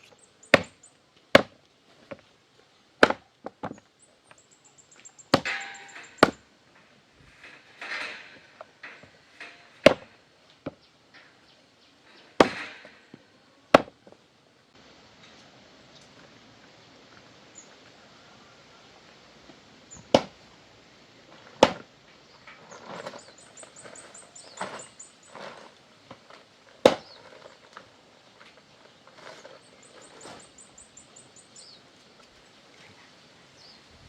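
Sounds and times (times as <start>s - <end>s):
rustling and handling noises: 0.0s - 18.3s, 21.2s - 31.2s.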